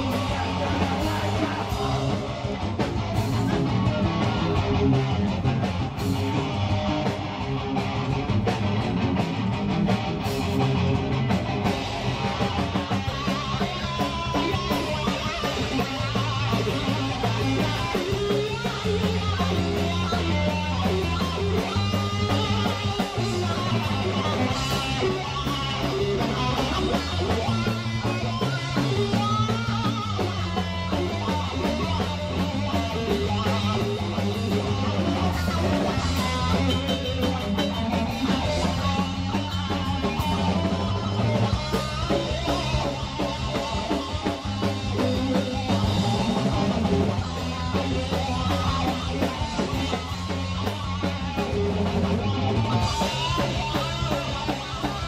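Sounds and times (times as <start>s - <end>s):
bass guitar: 0.0s - 55.0s
drum kit beat: 0.0s - 55.0s
electric guitars: 0.0s - 55.0s.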